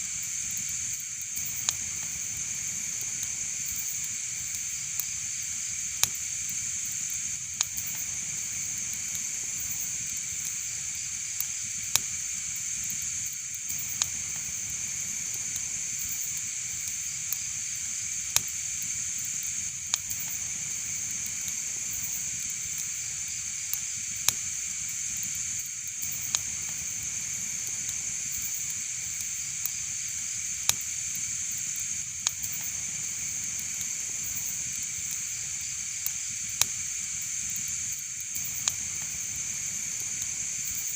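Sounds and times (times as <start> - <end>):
fire hissing: 0.0 - 40.9
fire crackling pops: 0.1 - 40.9.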